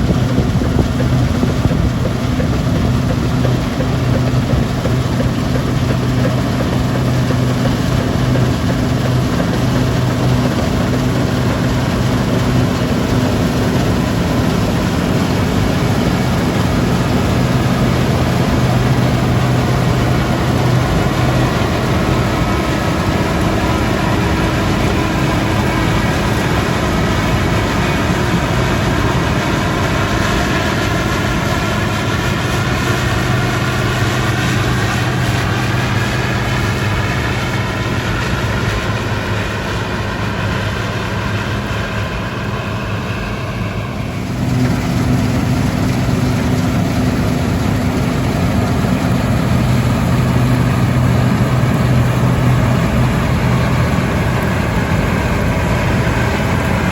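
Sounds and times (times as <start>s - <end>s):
combine harvester and tractors running: 0.0s - 56.9s.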